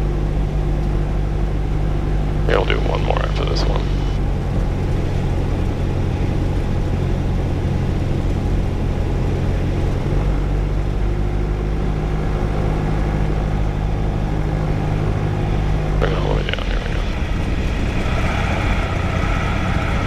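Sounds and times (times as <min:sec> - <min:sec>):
airplane engine droning: 0:00.0 - 0:20.0.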